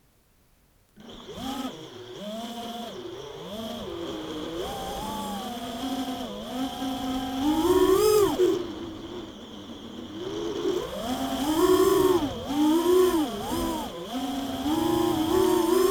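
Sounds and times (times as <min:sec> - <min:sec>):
quadcopter motors whining: 0:01.0 - 0:15.9.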